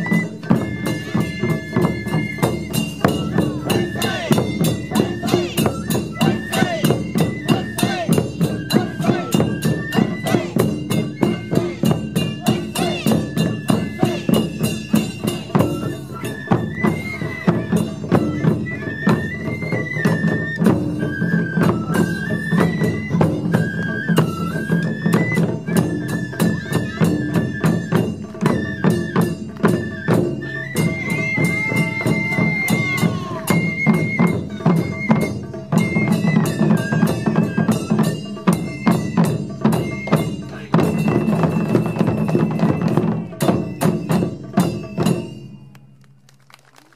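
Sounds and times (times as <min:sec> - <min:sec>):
rapid taiko drumming: 0:00.0 - 0:45.4
bamboo flute melody: 0:00.0 - 0:46.0.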